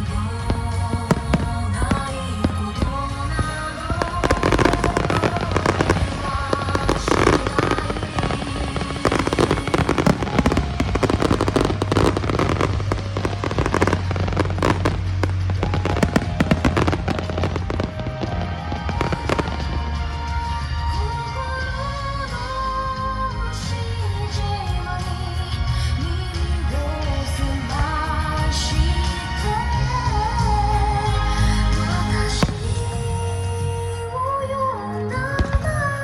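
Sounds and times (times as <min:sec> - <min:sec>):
fireworks bursting and crackling: 0:00.0 - 0:22.5, 0:24.3 - 0:33.8, 0:35.2 - 0:36.0
low fireworks rumble: 0:00.0 - 0:36.0
music with sustained melody: 0:00.0 - 0:36.0.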